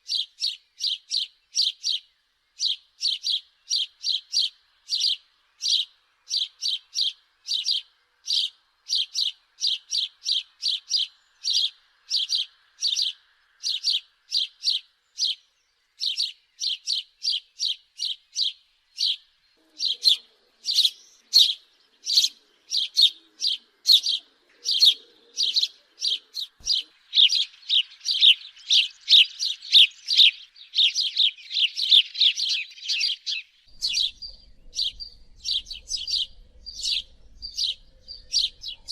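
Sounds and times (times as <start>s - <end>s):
sparrow chirping: 0.0s - 38.9s.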